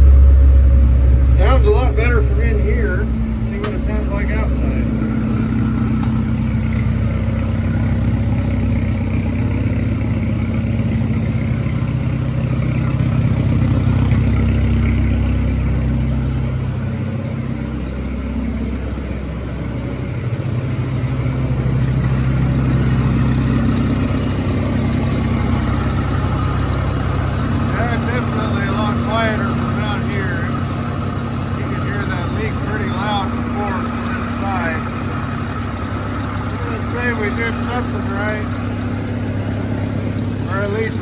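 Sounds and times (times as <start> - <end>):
combine engine idling: 0.0 - 41.0.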